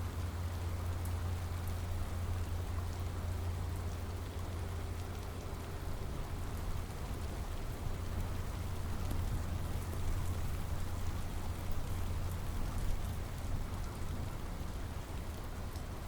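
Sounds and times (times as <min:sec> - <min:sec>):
constant low rumble: 0:00.0 - 0:16.0
steady rain falling: 0:00.0 - 0:16.0
raindrop ticks: 0:00.1 - 0:16.0.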